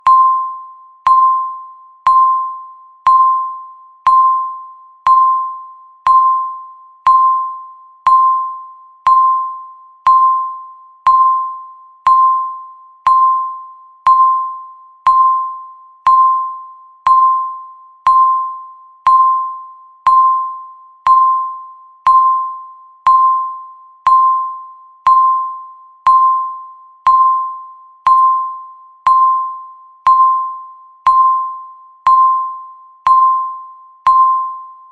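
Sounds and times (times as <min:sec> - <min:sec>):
electronic timer beeps: 0:00.0 - 0:34.9.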